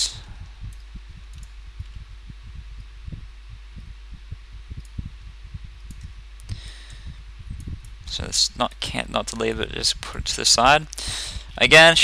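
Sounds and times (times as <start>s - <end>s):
soft low thumps: 0.0s - 10.4s
low electrical hum: 0.0s - 12.0s.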